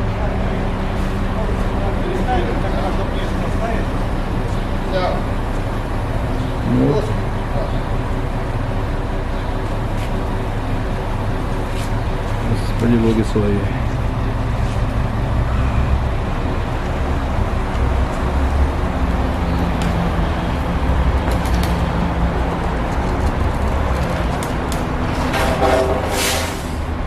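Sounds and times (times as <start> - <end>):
crane engine running: 0.0 - 27.0.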